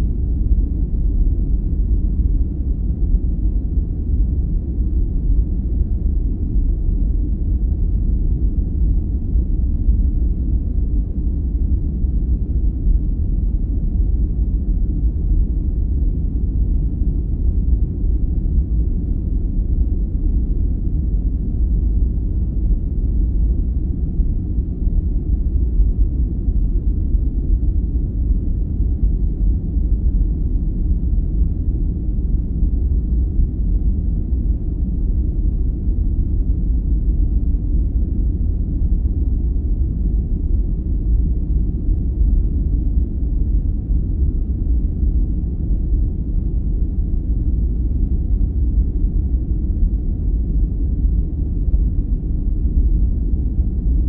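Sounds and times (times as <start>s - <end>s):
deep rumbling noise: 0.0s - 54.0s.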